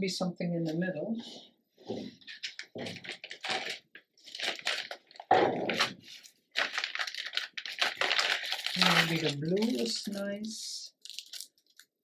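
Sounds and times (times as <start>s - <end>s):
hands rummaging small pieces: 2.3s - 12.0s.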